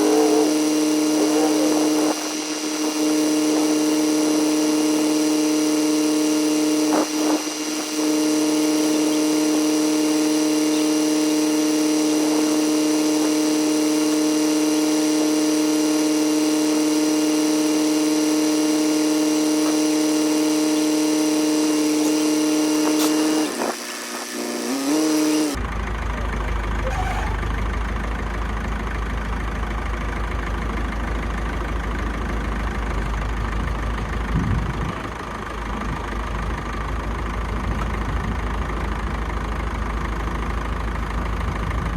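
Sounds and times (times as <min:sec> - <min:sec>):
tractor diesel engine: 0:00.0 - 0:41.9.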